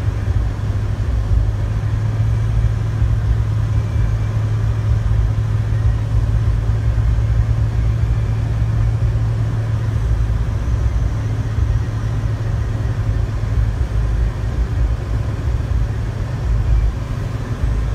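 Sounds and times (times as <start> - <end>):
car engine and tyre drone: 0.0 - 17.9
low road rumble: 0.0 - 17.9.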